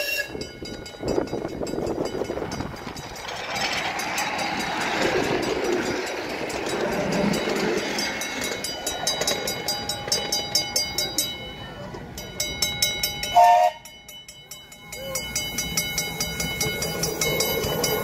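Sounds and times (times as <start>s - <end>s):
regular rail clicks: 0.0s - 18.0s
train rumbling on track: 0.0s - 18.0s.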